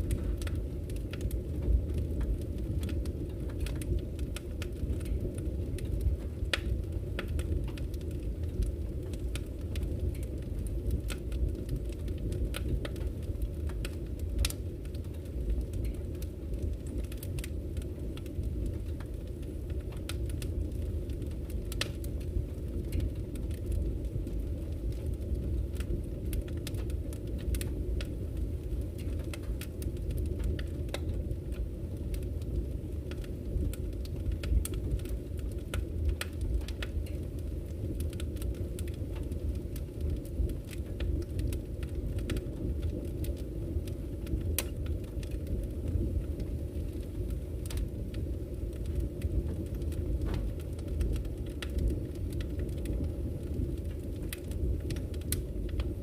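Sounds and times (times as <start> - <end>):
burning logs crackling and popping: 0.0 - 56.0
low rumble of flames: 0.0 - 56.0.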